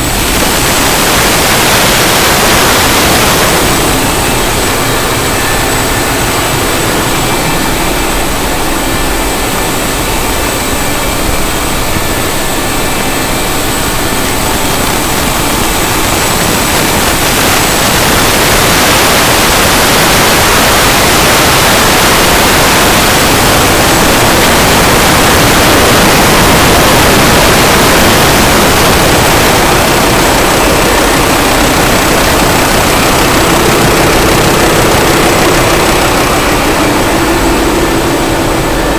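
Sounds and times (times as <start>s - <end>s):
engine room machinery din: 0.0s - 38.9s.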